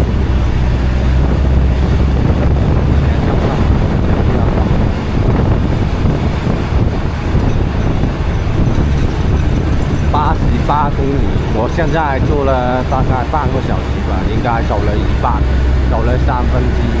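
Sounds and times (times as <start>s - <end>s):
bus engine drone: 0.0s - 17.0s
road and wind rumble: 0.0s - 17.0s.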